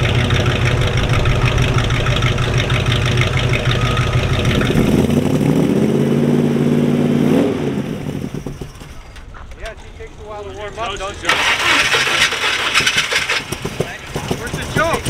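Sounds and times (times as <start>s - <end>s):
engine idling with pulsing rumble: 0.0s - 5.3s, 8.2s - 15.0s.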